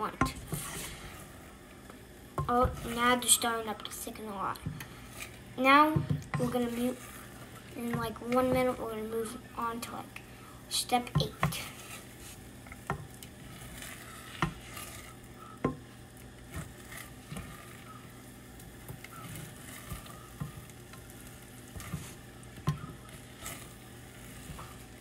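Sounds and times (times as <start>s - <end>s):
spatula scraping a saucepan: 0.0s - 1.5s, 4.5s - 10.0s, 11.0s - 25.0s
eggs sizzling faintly: 0.0s - 25.0s.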